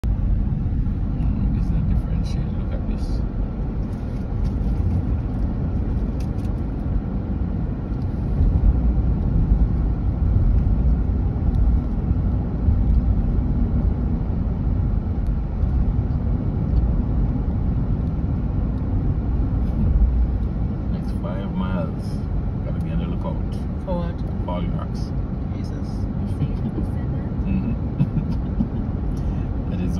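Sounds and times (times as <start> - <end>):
car tyres and engine rumble: 0.0 - 29.9.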